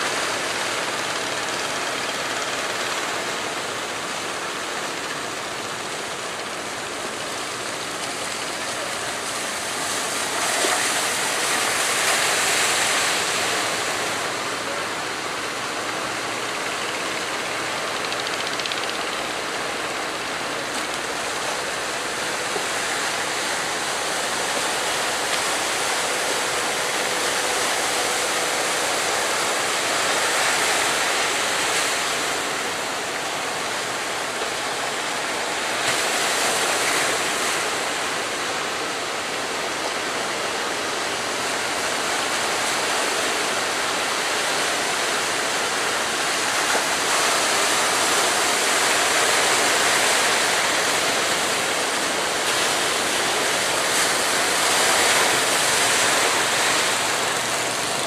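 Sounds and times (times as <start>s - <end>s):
ocean surf breaking: 0.0s - 58.0s.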